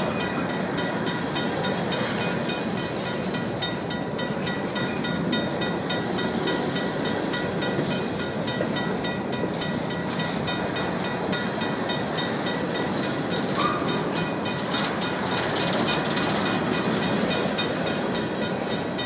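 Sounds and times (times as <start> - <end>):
crossing bell ringing rapidly: 0.0 - 19.0
train cars rolling on rails: 0.0 - 19.0.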